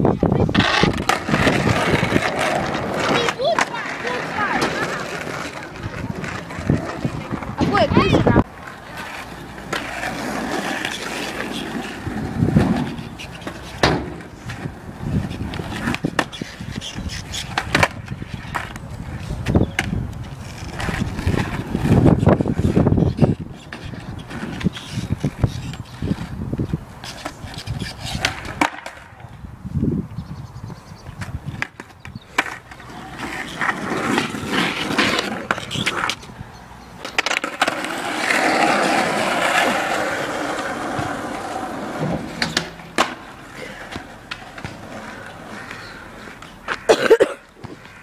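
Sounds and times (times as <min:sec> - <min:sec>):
skateboard clacking on ground: 0:00.0 - 0:29.4, 0:31.0 - 0:48.0
skateboard rolling on tarmac: 0:00.0 - 0:48.0.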